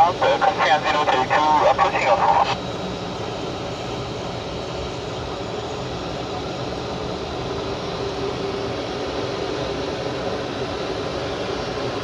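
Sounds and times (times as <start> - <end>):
jet engines running low power: 0.0 - 12.0.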